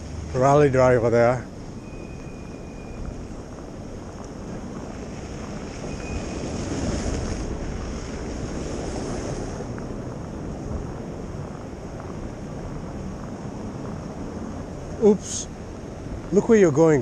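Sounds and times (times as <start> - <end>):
car tyres hissing through slush: 1.2 - 17.0.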